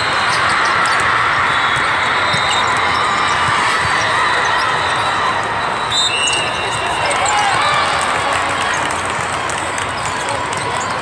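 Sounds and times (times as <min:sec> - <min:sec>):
murmur of players and spectators: 0:00.0 - 0:11.0.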